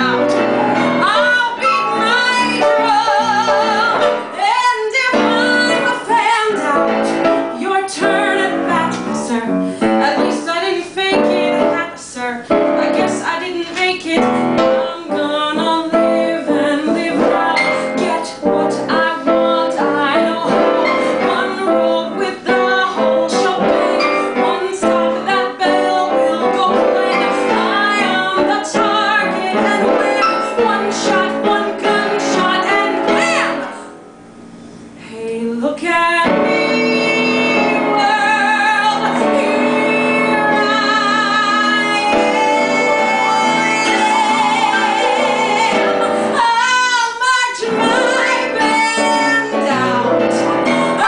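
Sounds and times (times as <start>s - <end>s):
woman singing show tune: 0.0s - 33.9s, 35.1s - 51.0s
piano accompaniment: 0.0s - 35.0s, 35.9s - 51.0s.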